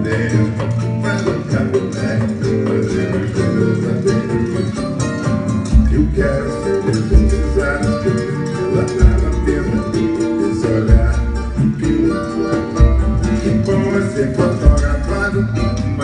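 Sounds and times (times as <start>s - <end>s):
plucked guitar: 0.0s - 16.0s.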